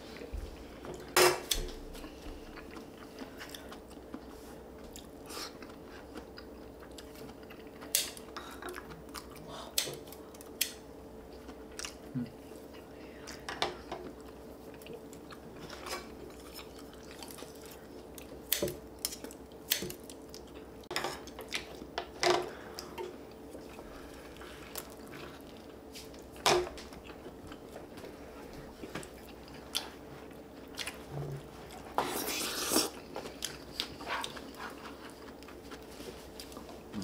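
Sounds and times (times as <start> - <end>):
faint steady hum: 0.0 - 37.0
person chewing food: 0.1 - 37.0.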